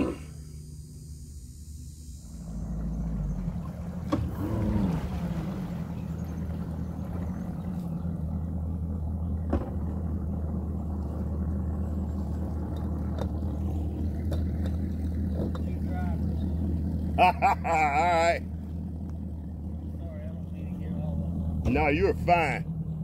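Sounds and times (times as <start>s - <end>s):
boat motor idling: 0.0s - 23.0s.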